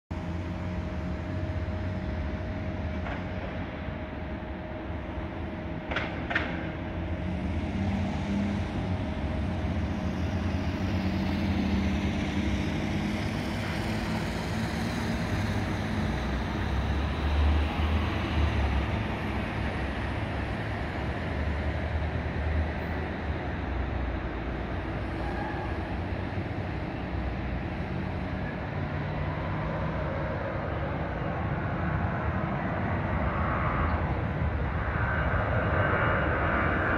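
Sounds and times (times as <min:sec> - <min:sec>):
jet engines at takeoff: 0:00.1 - 0:36.9.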